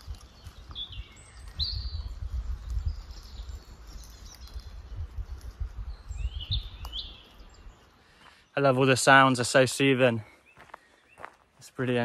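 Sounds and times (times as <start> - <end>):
woodland birds singing: 0.0 - 12.0.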